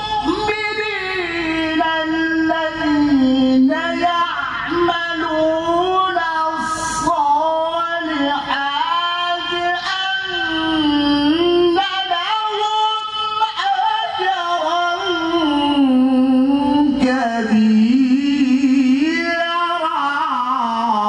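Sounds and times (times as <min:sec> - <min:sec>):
man reciting melodically: 0:00.0 - 0:21.0.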